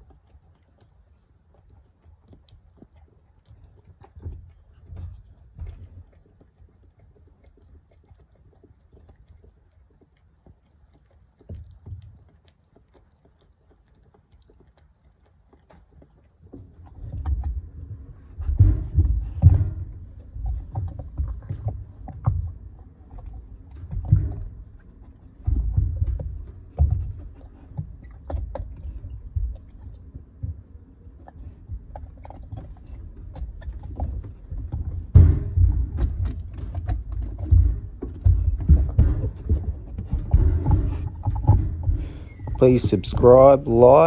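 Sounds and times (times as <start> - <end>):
dog chewing rubber ball: 0.0 - 43.8.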